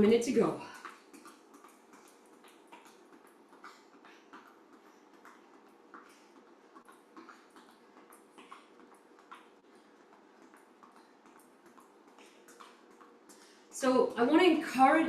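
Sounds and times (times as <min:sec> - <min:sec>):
soft footsteps on floor: 0:00.6 - 0:14.8.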